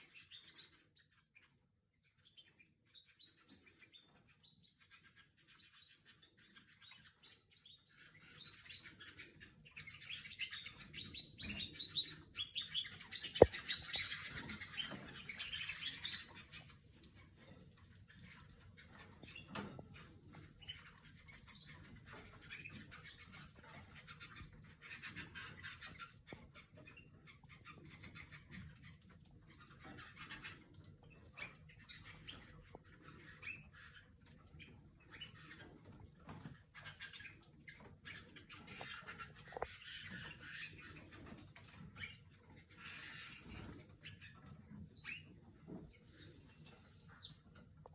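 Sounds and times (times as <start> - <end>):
canaries chirping: 0.0 - 47.9
birds clicking and scratching: 6.1 - 47.9.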